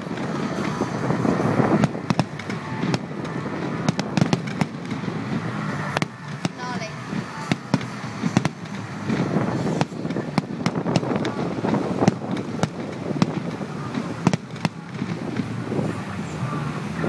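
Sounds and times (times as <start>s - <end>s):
continuous rushing noise: 0.0s - 17.0s
fireworks bangs and cracks: 0.0s - 17.0s.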